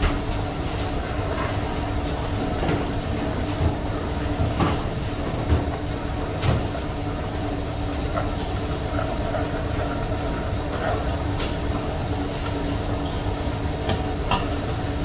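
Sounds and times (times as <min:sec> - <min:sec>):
machinery hum and rumble: 0:00.0 - 0:15.0.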